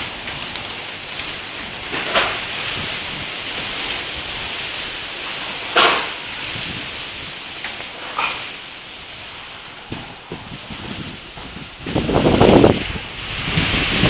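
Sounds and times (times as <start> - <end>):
wind buffeting microphone: 0.0 - 14.0
wind through tree foliage: 0.0 - 14.0.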